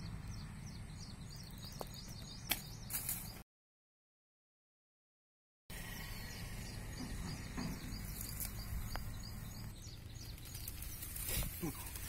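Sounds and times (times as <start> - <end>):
outdoor background noise: 0.0 - 3.4, 5.7 - 12.0
small bird chirping: 0.0 - 3.4, 5.8 - 12.0.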